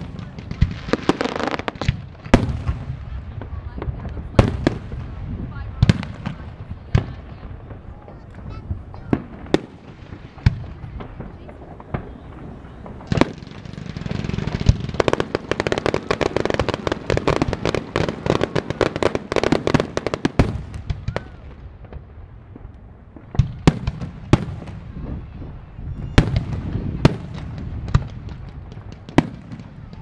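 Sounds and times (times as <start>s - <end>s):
fireworks bangs and crackling: 0.0s - 30.0s
fireworks booms: 0.0s - 30.0s.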